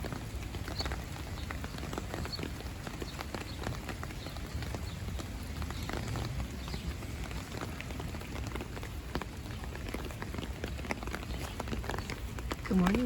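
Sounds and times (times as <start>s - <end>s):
rain drops tapping on umbrella: 0.0s - 13.0s
steady hiss of rain: 0.0s - 13.0s.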